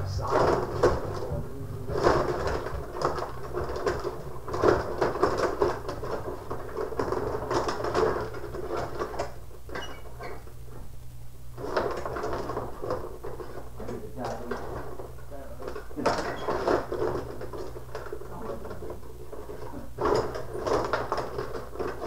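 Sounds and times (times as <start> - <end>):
plastic players clacking: 0.0 - 10.9, 11.6 - 22.0.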